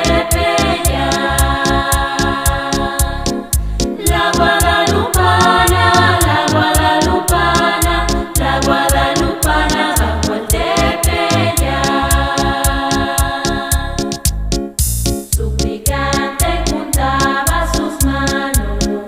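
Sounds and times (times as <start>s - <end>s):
song with vocals and heavy bass: 0.0s - 19.0s.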